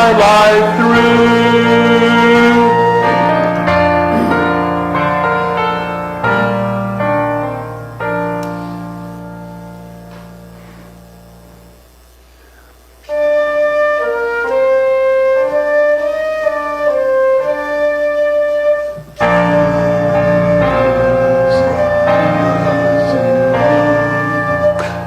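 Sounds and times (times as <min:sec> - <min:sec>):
flute-like melody: 0:00.0 - 0:09.9, 0:13.1 - 0:25.0
piano chords with bass line: 0:00.0 - 0:11.9, 0:15.3 - 0:25.0.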